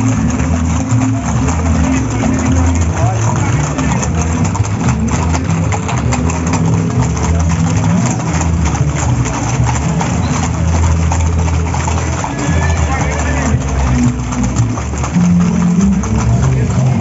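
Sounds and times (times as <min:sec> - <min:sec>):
horse hooves on pavement: 0:00.0 - 0:17.0.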